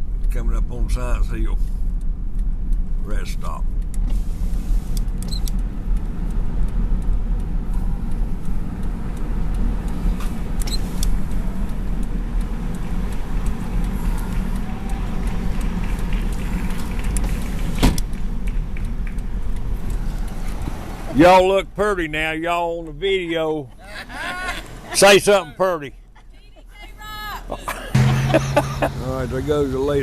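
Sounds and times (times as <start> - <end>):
car interior rumble: 0.0 - 30.0.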